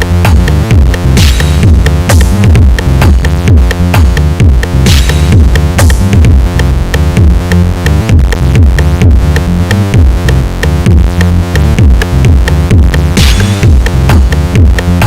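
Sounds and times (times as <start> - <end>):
electronic music with drum-machine beat: 0.0 - 15.0.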